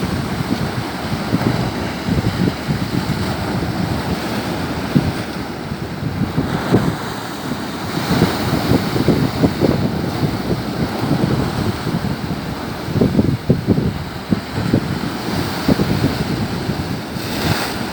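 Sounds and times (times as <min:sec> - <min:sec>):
waves breaking on rocky shore: 0:00.0 - 0:17.9
wind buffeting microphone: 0:00.0 - 0:17.9.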